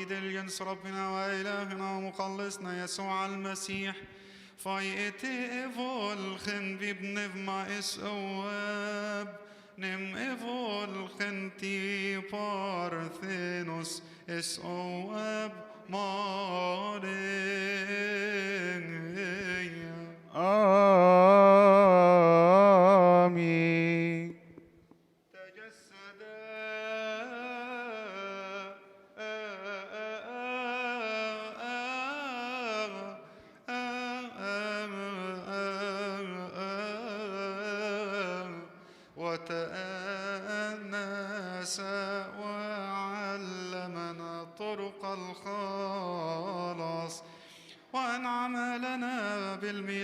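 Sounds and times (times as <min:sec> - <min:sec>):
man chanting: 0:00.0 - 0:24.6, 0:25.3 - 0:50.0.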